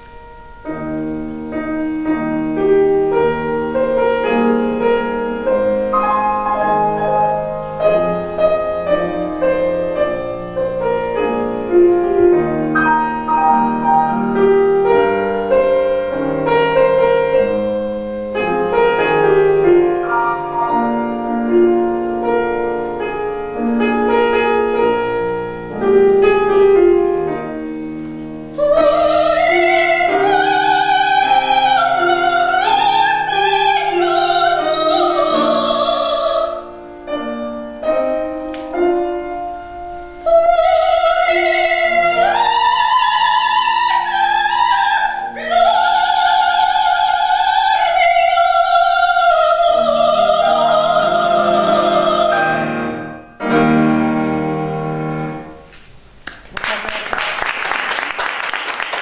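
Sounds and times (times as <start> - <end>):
soprano singing: 0.0 - 55.6
grand piano playing: 0.0 - 56.2.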